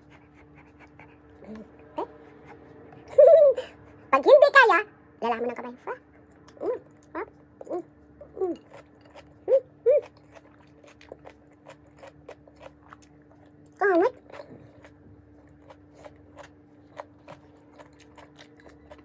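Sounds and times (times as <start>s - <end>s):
chewing with crunching: 0.0s - 4.1s, 5.9s - 19.0s.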